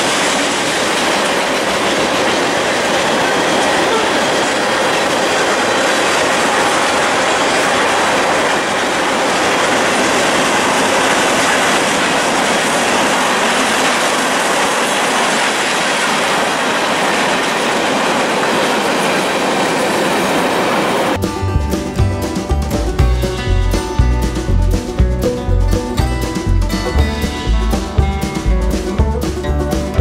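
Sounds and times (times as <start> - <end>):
freight train wheels on rails: 0.0 - 30.0.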